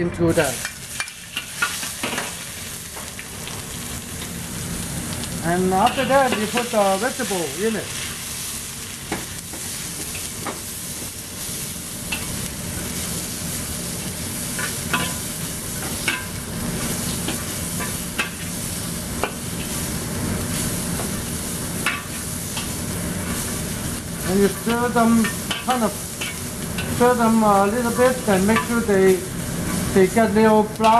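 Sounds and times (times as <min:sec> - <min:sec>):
vegetables sizzling in a wok: 0:00.3 - 0:30.9.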